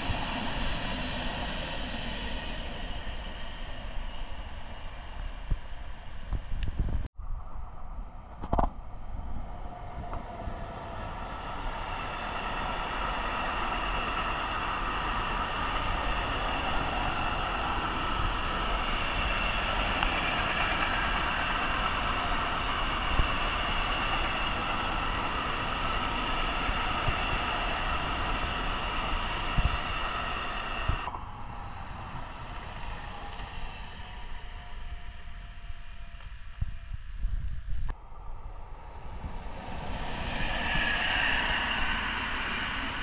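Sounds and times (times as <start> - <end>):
train wheels rumbling on track: 0.0 - 7.1, 9.5 - 38.0, 38.8 - 43.0
high-pitched whine: 0.0 - 43.0.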